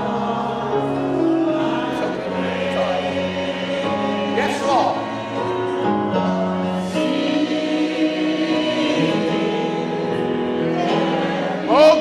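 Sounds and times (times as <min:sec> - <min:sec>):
gospel choir singing: 0:00.0 - 0:12.0.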